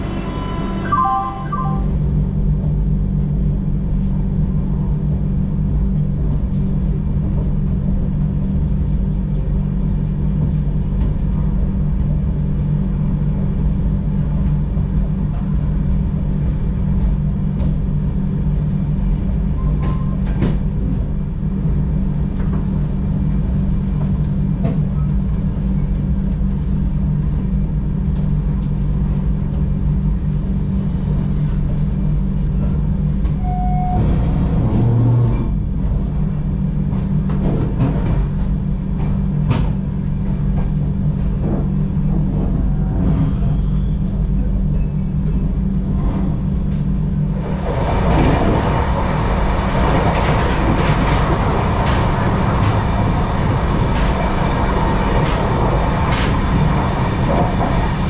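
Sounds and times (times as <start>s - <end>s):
train coach hum and rumble: 0.0s - 58.0s.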